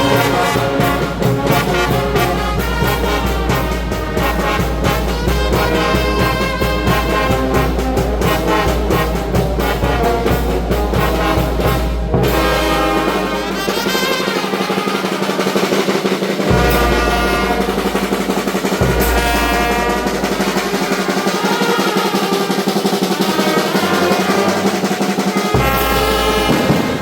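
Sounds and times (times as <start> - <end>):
brass band playing: 0.0 - 27.0
snare drum rolling: 0.0 - 27.0.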